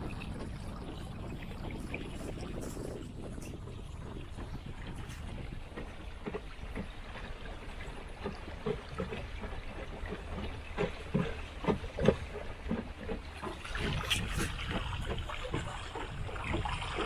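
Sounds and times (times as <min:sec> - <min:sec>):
low steady rumble: 0:00.0 - 0:17.0
water lapping against boat hull: 0:00.0 - 0:17.0.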